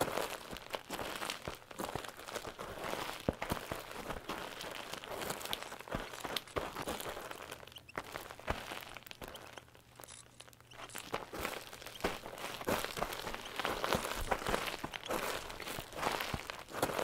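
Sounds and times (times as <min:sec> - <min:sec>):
crackling and crunching: 0:00.0 - 0:17.0.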